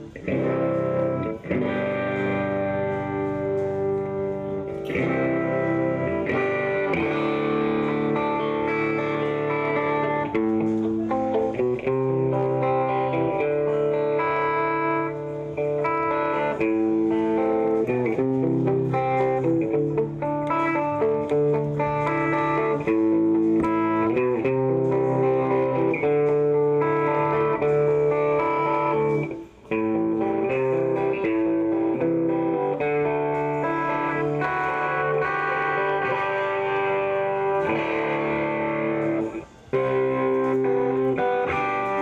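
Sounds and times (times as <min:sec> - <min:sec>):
electric guitar chords: 0:00.0 - 0:42.0.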